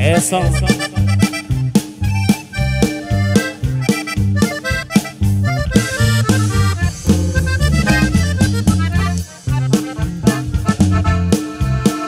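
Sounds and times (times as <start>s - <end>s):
accordion melody: 0.0s - 12.0s
bass line: 0.0s - 12.0s
drum hits: 0.8s - 11.0s.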